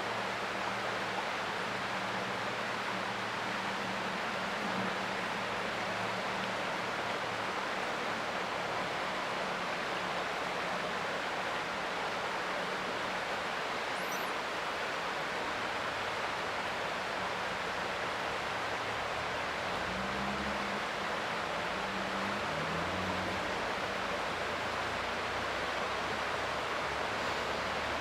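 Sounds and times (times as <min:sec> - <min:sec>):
creek water flowing: 0:00.0 - 0:28.0.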